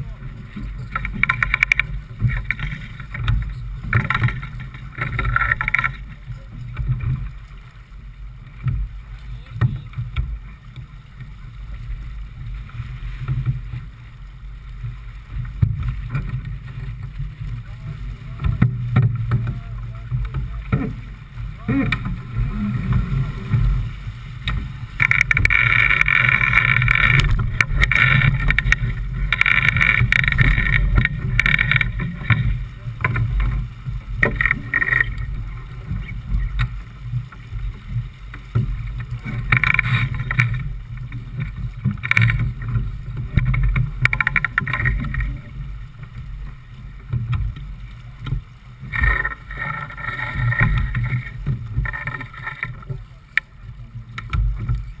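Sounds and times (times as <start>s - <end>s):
low rumble of wind and water: 0.0s - 55.0s.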